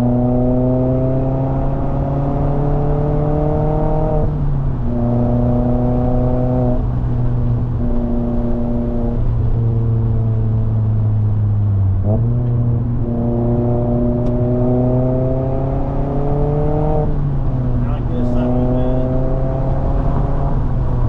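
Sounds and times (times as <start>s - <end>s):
car engine and exhaust: 0.0s - 21.0s.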